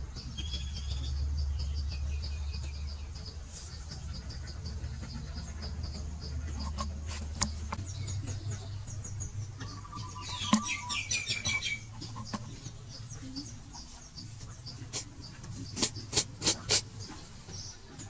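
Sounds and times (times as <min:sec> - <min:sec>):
high chirping: 0:00.0 - 0:17.9
steady low hum: 0:00.0 - 0:18.0.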